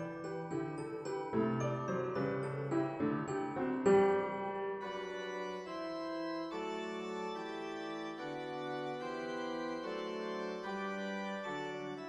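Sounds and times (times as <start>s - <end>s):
organ music held chords: 0.0s - 12.0s.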